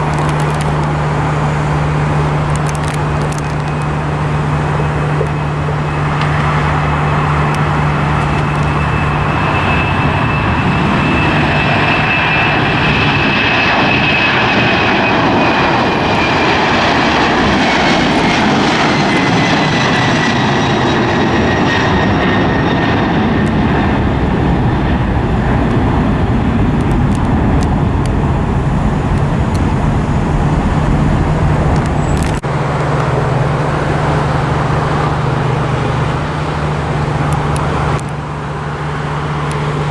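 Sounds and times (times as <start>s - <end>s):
airliner engines roaring: 0.0s - 39.9s.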